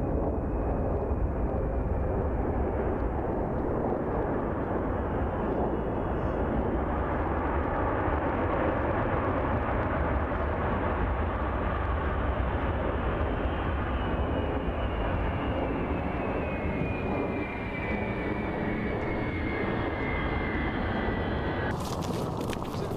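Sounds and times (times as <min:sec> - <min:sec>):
jet engines running: 0:00.0 - 0:22.9.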